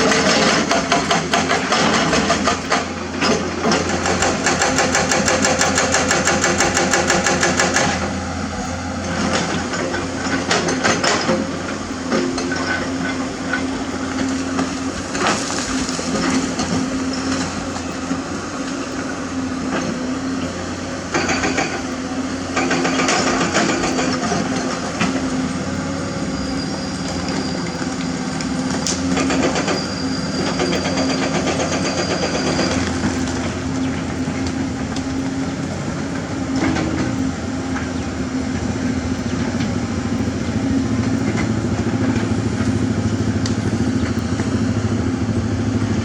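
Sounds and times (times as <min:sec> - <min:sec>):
excavator diesel engine running: 0:00.0 - 0:46.0
rhythmic knocking: 0:00.0 - 0:46.0.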